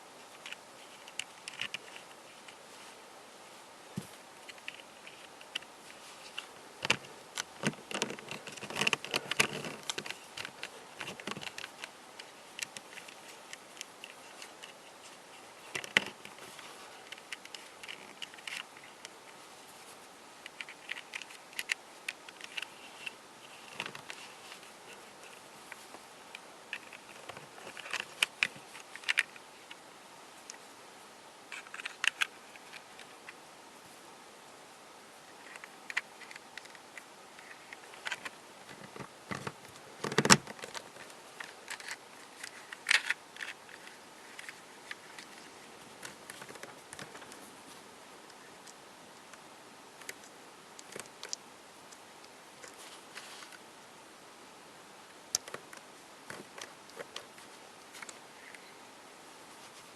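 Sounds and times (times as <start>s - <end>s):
light scratchy rustle: 0.0s - 34.1s, 35.1s - 53.8s, 55.3s - 59.9s.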